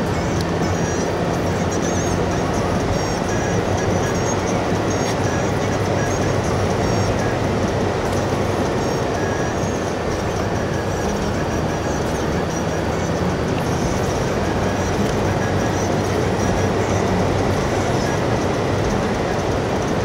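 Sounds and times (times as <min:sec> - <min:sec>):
low engine drone: 0:00.0 - 0:20.0
tyres rolling on asphalt: 0:00.0 - 0:20.0.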